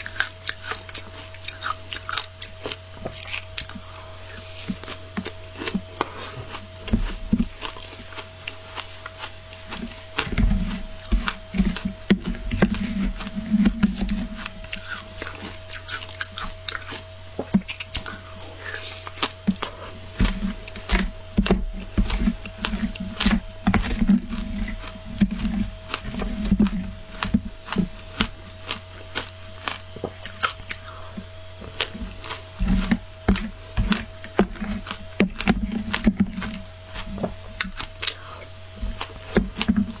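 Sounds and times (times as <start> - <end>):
crunching shaved ice: 0.0 - 40.0
faint steady hum: 0.0 - 40.0.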